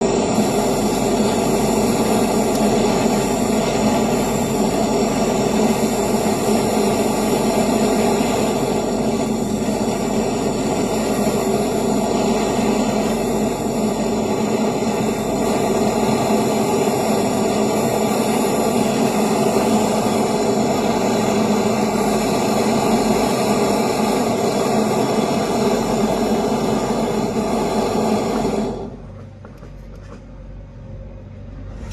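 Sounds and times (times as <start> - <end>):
gas torch roaring: 0.0 - 31.9.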